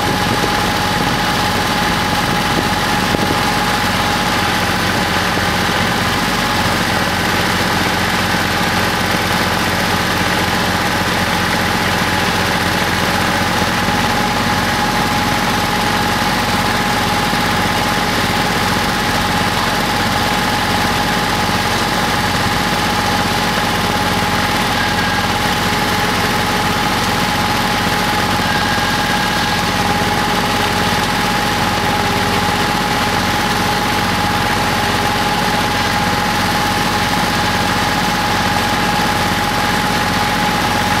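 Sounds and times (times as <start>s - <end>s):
engine idling with high whine: 0.0s - 41.0s.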